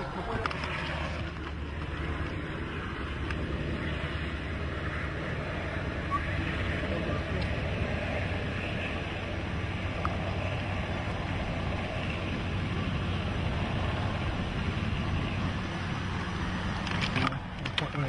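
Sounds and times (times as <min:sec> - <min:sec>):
road rumble: 0:00.0 - 0:18.0
vehicle engine: 0:00.0 - 0:18.0
wind noise: 0:00.0 - 0:18.0.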